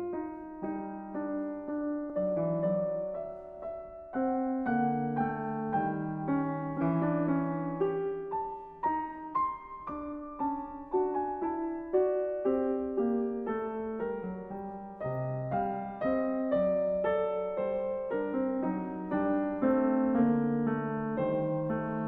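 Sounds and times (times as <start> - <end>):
piano playing gentle melody: 0.0 - 22.0.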